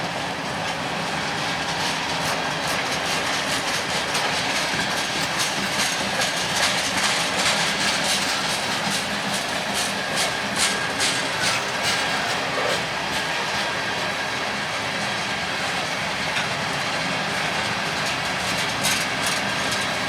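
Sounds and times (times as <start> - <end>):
train wheels clicking over rail joints: 0.5 - 20.0.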